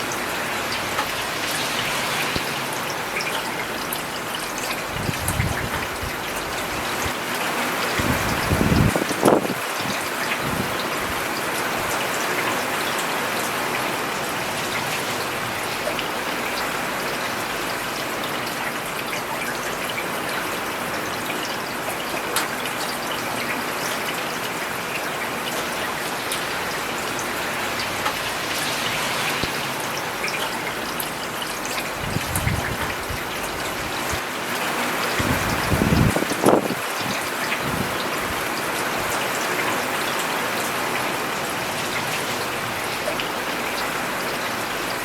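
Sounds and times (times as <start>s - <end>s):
rain on pavement: 0.0s - 45.0s.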